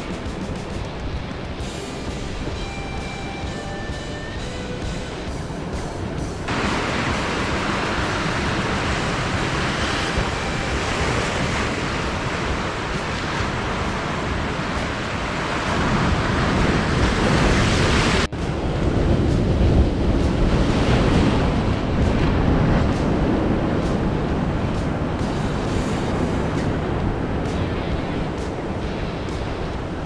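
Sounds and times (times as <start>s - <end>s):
wind buffeting microphone: 0.0s - 30.0s
surf breaking on rocks: 5.6s - 30.0s.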